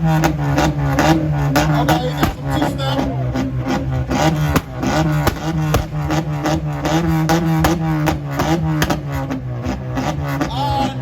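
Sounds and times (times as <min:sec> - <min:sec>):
sharp exhaust bangs: 0:00.0 - 0:10.9
car engine drone: 0:00.0 - 0:11.0.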